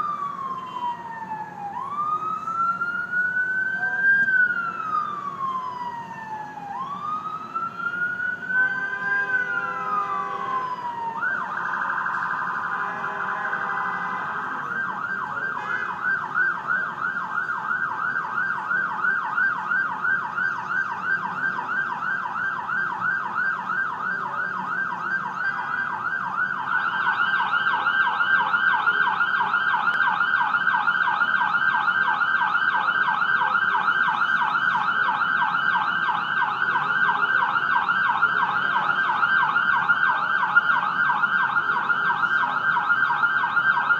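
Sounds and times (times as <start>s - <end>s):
ambulance siren: 0.0s - 43.9s.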